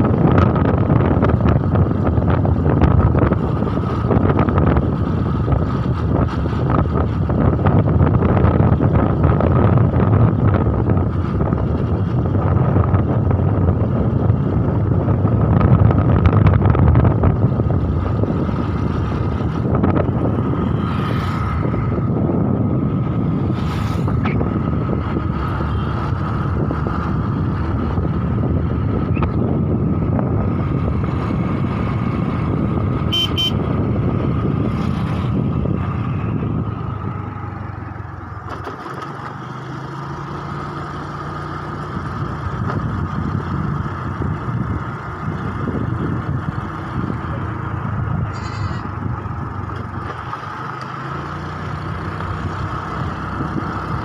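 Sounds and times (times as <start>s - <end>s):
vehicle engine and tyre noise: 0.0s - 54.0s
wind rushing over microphone: 0.0s - 54.0s.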